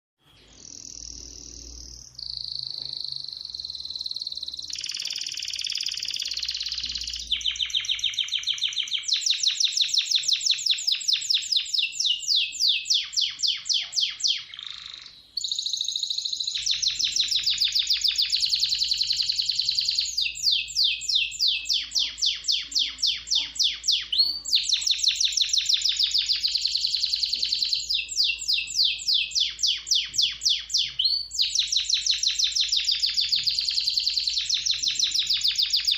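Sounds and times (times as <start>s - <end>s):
canary singing trills: 0.2s - 35.9s.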